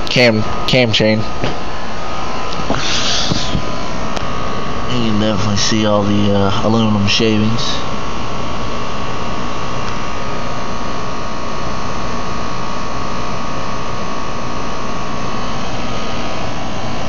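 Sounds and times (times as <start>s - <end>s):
fan whirring: 0.0s - 17.0s.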